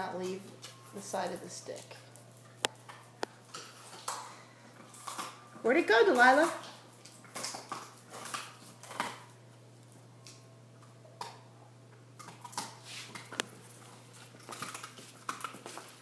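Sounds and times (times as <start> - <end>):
dog chewing on chew stick: 0.3 - 10.0, 12.2 - 16.0.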